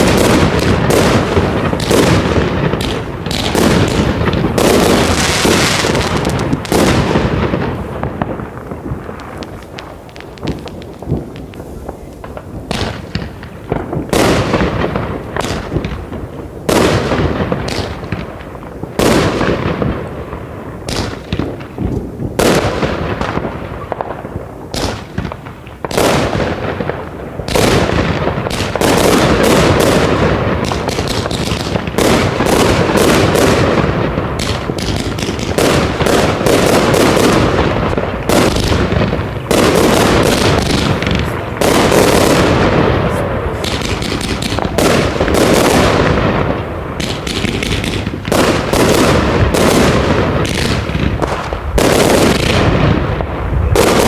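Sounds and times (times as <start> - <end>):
firework bangs and crackle: 0.0 - 54.0.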